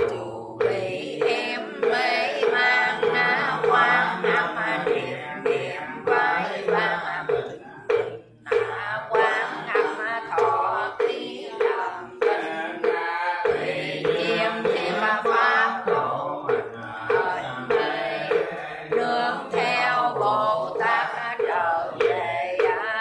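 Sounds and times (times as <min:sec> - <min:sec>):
steady knocking beat: 0:00.0 - 0:23.0
voices chanting prayer: 0:00.0 - 0:23.0.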